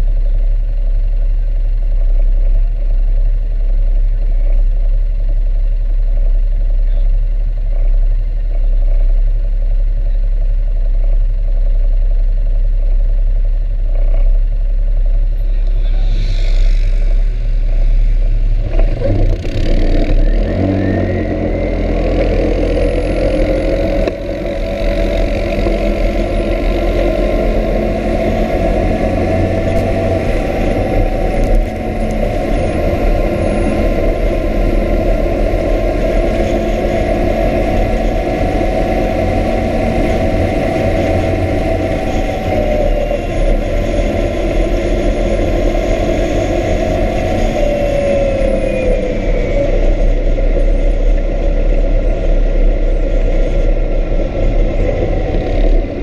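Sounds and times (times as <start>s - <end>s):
atv engine running: 0.0s - 56.0s
wind rumble: 0.0s - 56.0s.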